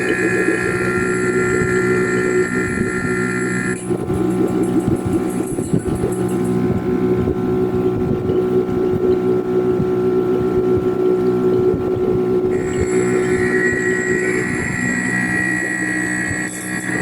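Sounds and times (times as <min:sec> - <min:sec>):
compressor humming: 0:00.0 - 0:17.0.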